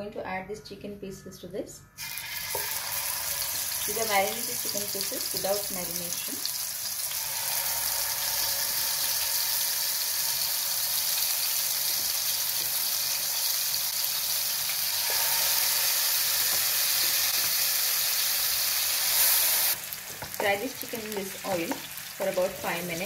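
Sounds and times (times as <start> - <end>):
chicken sizzling in hot oil: 2.0 - 23.0.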